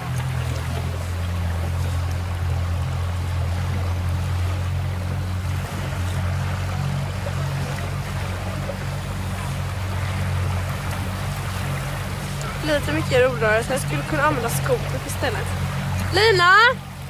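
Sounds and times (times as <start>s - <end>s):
outboard motor running: 0.0s - 17.0s
water washing around hull: 0.0s - 17.0s.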